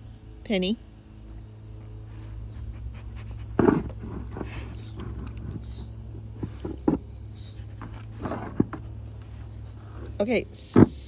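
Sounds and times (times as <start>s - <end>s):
low hum: 0.0s - 11.0s
scraping and rustling: 2.0s - 11.0s.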